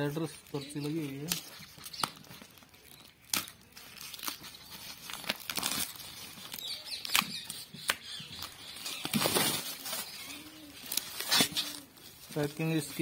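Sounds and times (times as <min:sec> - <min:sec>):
plastic wrap crinkling and tearing: 0:00.0 - 0:13.0.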